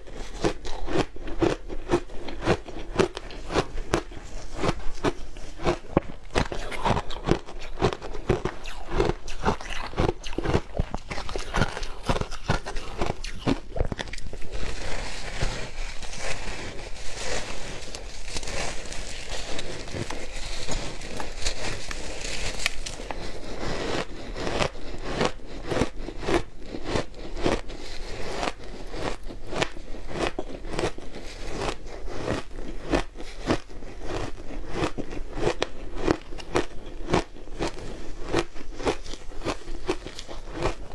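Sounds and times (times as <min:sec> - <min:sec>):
crunching shaved ice: 0:00.1 - 0:40.9.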